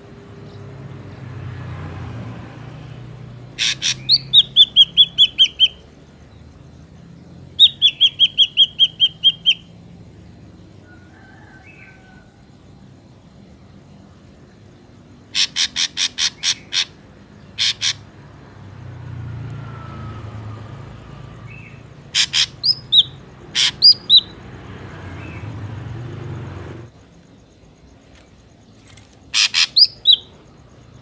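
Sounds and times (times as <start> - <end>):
drongo calling: 2.8 - 31.0.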